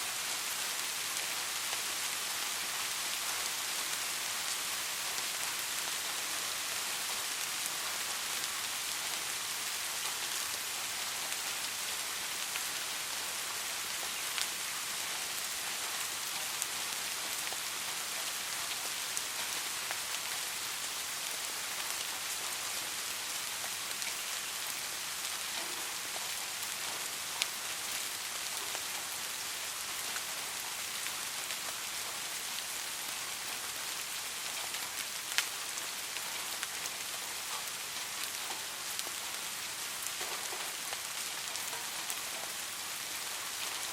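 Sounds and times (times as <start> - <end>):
soft steady rain: 0.0 - 43.9
individual raindrops: 0.4 - 43.9.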